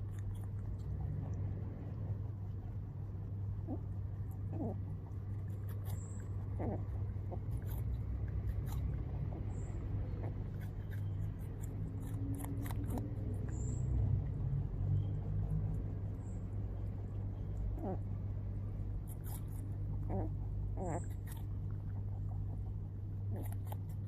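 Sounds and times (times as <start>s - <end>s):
rabbit crunching apple: 0.0s - 24.0s
rabbit grunts: 0.0s - 24.0s
steady low hum: 0.0s - 24.0s.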